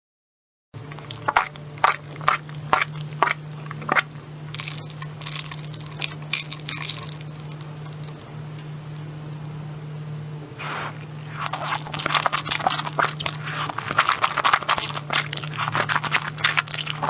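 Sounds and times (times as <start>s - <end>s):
crunchy food being chewed: 0.8s - 17.0s.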